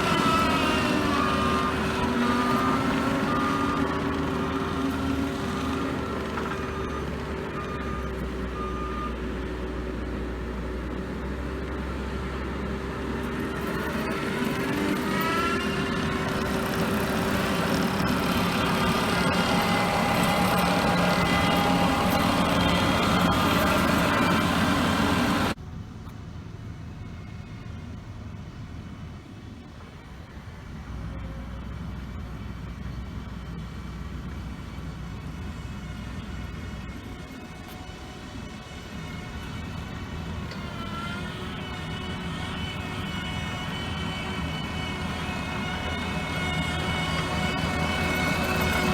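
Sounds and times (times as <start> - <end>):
whining tones: 0.0 - 25.6, 30.0 - 48.9
skid steer engine running: 0.0 - 48.9.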